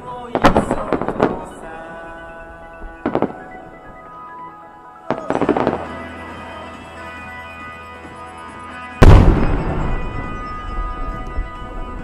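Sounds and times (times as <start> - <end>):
fireworks banging: 0.0 - 4.4, 5.1 - 7.2, 8.9 - 12.0
music with held tones: 0.0 - 12.0.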